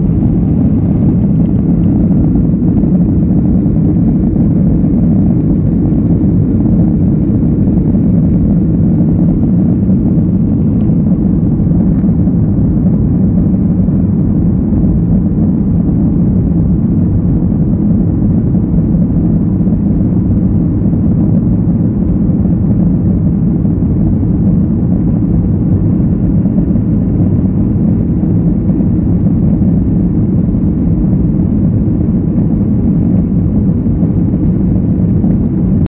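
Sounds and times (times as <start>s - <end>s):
airliner cabin drone: 0.0s - 35.9s.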